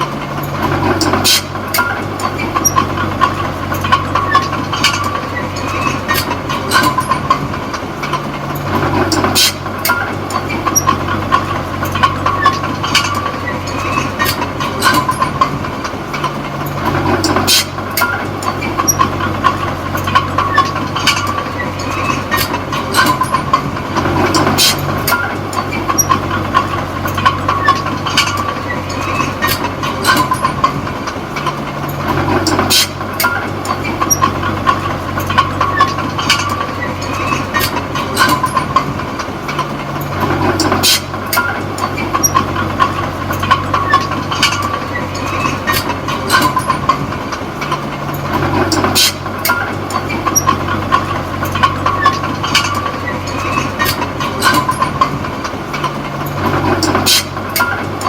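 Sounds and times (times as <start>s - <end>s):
bulldozer diesel engine running: 0.0s - 58.0s
steel tracks clanking and squealing: 0.0s - 58.0s.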